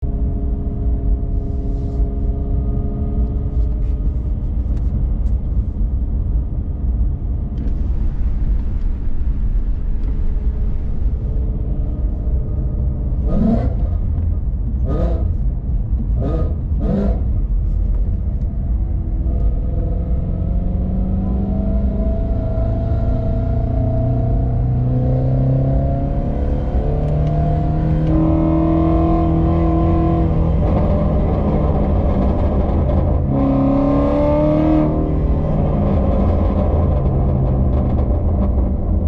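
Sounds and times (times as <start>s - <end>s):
car engine exhaust on the move: 0.0s - 39.0s.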